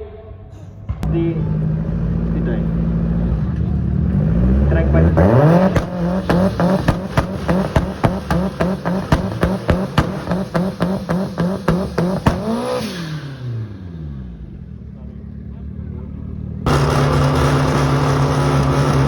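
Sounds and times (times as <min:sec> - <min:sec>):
sharp engine bangs: 0:00.9 - 0:14.8, 0:16.6 - 0:19.0
racing car engine revving: 0:00.9 - 0:19.0.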